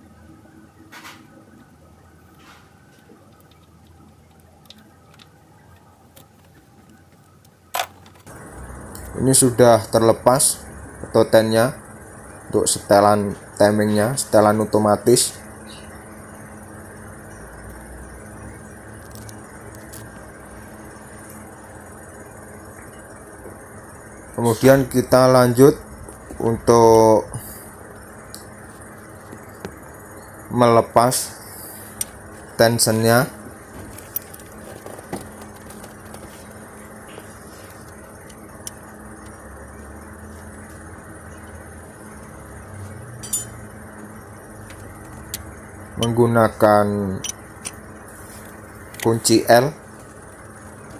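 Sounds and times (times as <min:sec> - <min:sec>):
low background hum: 0:00.0 - 0:50.9.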